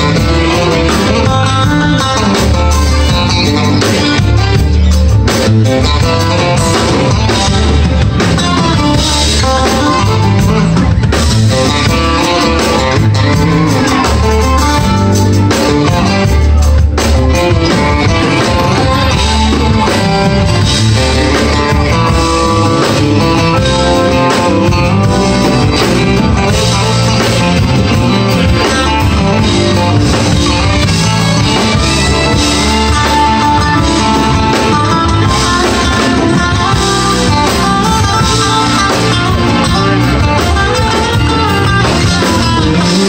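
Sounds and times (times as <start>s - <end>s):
bass guitar: 0.0s - 43.0s
drums: 0.0s - 43.0s
electric guitar: 0.0s - 43.0s.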